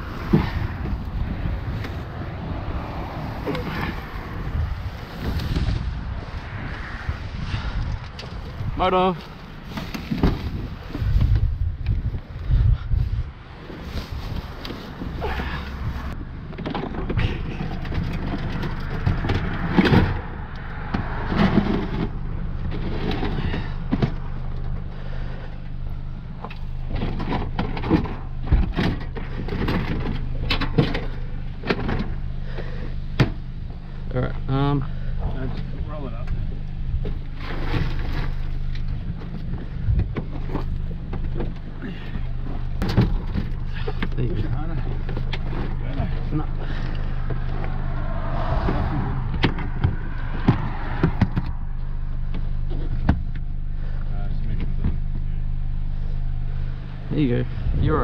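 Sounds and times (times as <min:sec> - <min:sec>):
car engine idling: 0:00.0 - 0:58.0
steady low hum: 0:00.0 - 0:58.0.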